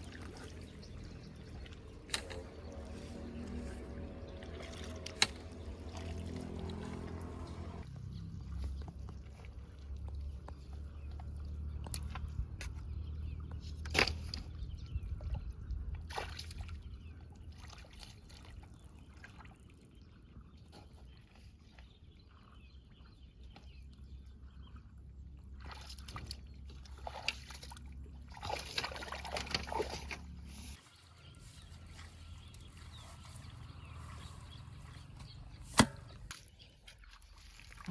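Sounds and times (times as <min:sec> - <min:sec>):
water sloshing and splashing: 0:00.0 - 0:37.9.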